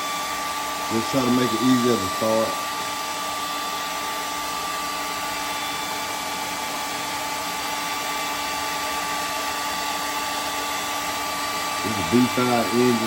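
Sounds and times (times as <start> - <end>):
hair dryer whining: 0.0 - 13.0.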